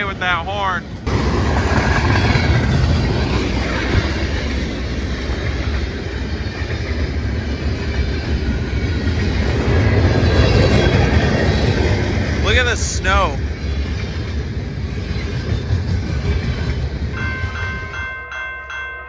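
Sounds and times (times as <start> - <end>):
freight train rumbling on rails: 0.0 - 18.5.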